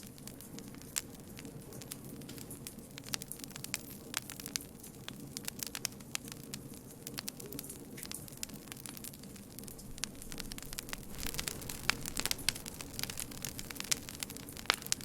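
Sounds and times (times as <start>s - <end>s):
low rush of flame: 0.0s - 15.0s
wood crackling and popping: 0.0s - 15.0s.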